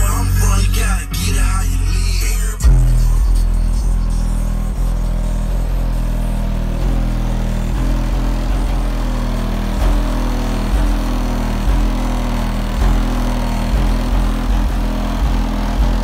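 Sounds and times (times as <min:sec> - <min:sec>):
deep bass notes from subwoofers: 0:00.0 - 0:16.0.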